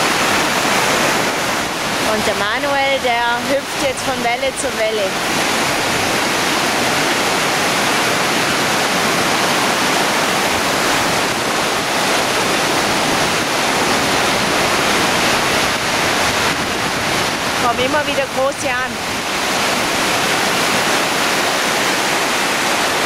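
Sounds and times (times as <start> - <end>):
sea surf breaking: 0.0 - 23.0.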